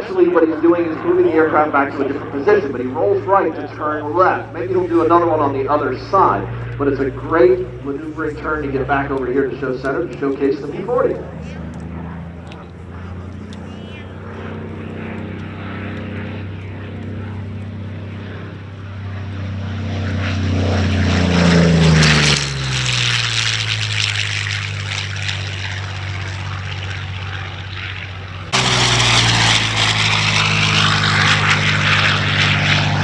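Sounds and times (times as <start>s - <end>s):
propeller plane flying by: 0.0s - 33.0s.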